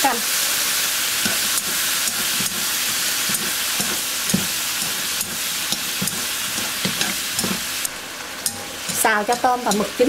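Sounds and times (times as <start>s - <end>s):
food sizzling in a wok: 0.0s - 10.0s
utensils knocking against pan: 1.2s - 7.7s, 8.4s - 10.0s.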